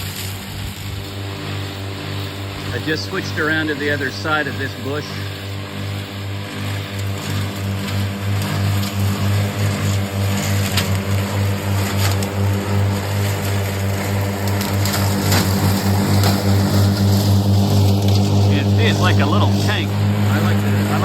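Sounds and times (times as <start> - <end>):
lawn mower running under load: 0.0 - 21.0
sharp crackles: 0.0 - 21.0.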